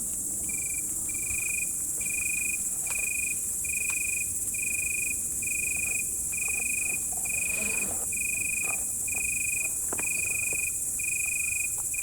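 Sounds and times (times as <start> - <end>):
insect chorus: 0.4 - 12.0.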